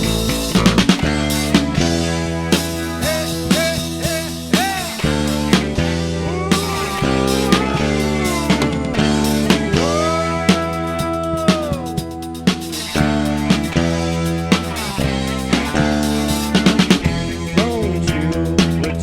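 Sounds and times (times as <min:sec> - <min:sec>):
bass guitar: 0:00.0 - 0:19.0
drum kit steady beat: 0:00.0 - 0:19.0
electric guitar lead bending notes: 0:00.0 - 0:19.0.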